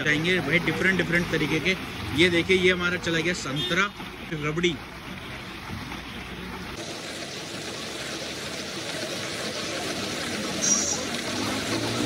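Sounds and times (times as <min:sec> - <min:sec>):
traffic: 0:00.0 - 0:12.0.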